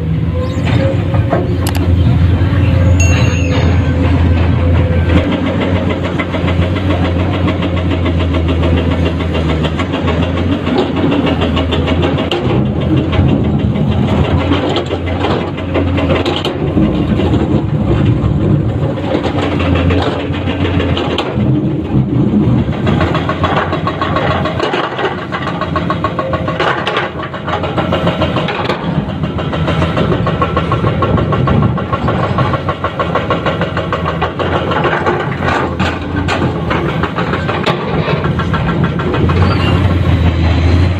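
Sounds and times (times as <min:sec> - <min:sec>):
excavator diesel engine under load: 0:00.0 - 0:40.9.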